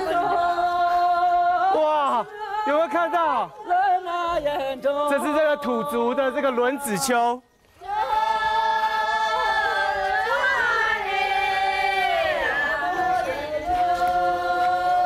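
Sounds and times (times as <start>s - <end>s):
women singing long high notes: 0.0s - 15.0s.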